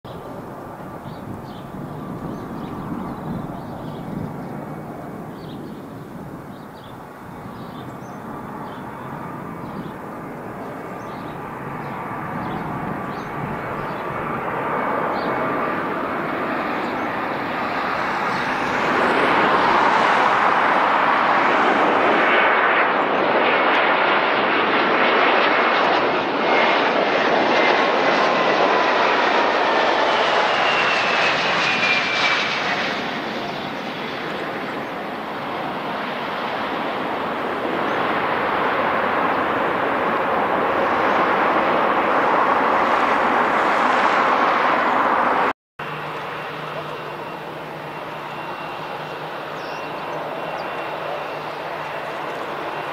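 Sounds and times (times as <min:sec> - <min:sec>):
jet engines passing by: 0:00.1 - 0:52.9.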